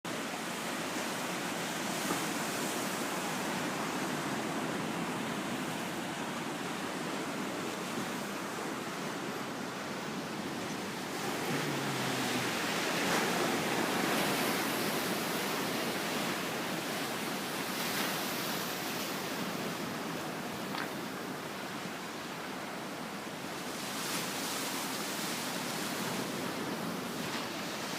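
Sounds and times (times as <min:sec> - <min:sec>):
sea surf washing onto beach: 0:00.1 - 0:27.9.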